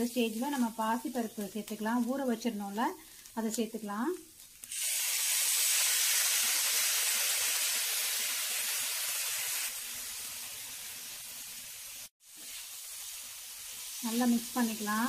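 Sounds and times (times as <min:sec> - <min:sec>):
lentils sizzling in hot oil: 0:00.0 - 0:15.0.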